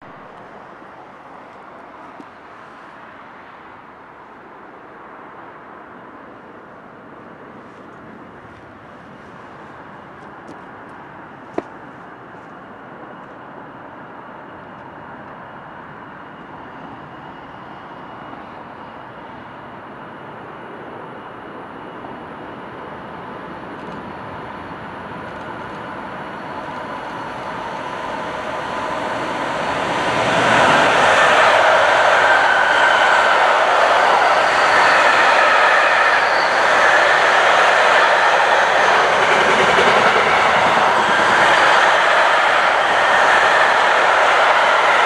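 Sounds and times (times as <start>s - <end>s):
train approaching: 0.0s - 45.0s.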